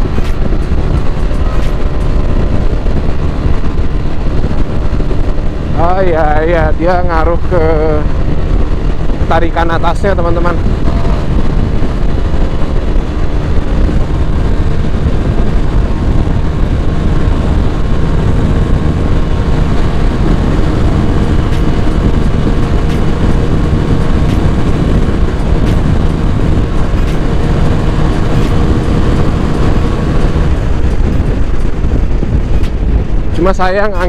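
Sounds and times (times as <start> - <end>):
scooter engine droning: 0.0 - 33.3
wind rush on microphone: 0.0 - 34.0.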